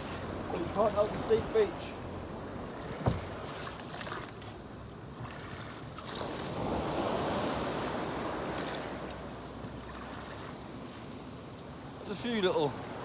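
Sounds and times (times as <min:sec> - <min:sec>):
waves breaking on a beach: 0:00.0 - 0:13.0.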